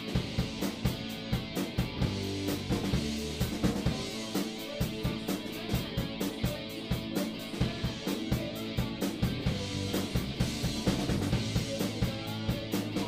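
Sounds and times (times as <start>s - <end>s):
kick drum and cymbal beat: 0.0s - 13.0s
rock band playing live: 0.0s - 13.0s.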